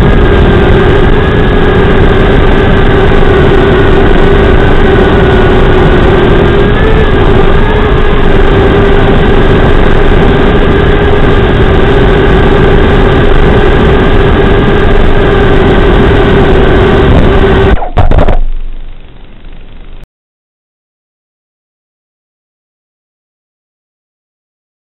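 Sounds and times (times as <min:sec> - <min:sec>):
drone motors buzzing and whining: 0:00.0 - 0:20.0.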